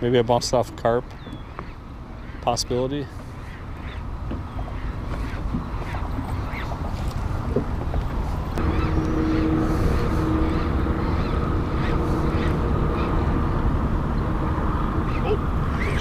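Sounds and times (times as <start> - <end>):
boat motor humming: 0.0 - 16.0
wind and water rumble: 0.0 - 16.0.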